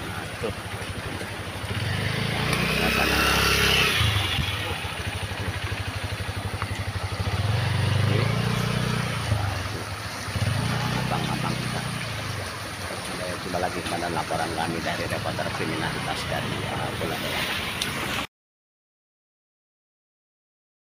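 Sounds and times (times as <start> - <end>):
motorcycle engine revving: 0.0 - 18.3.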